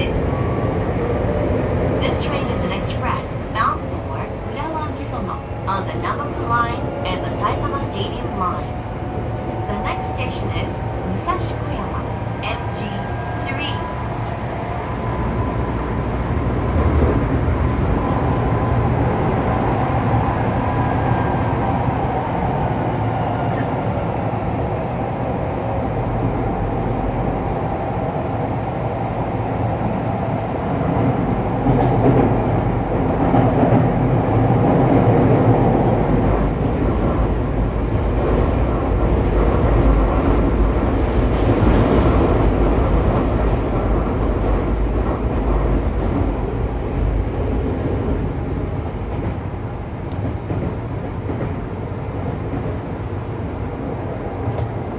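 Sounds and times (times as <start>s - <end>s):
train wheels rolling on rails: 0.0s - 54.9s.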